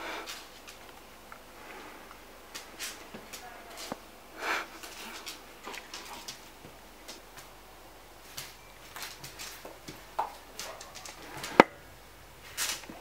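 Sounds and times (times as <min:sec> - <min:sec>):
dog paws tapping on tiles: 0:00.0 - 0:13.0.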